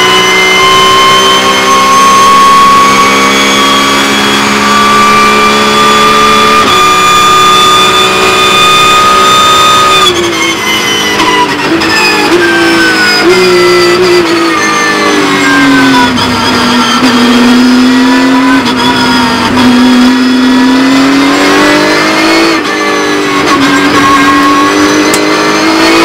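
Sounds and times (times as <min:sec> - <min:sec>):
gear downshifts: 0:00.0 - 0:26.0
race car engine at full throttle: 0:00.0 - 0:26.0.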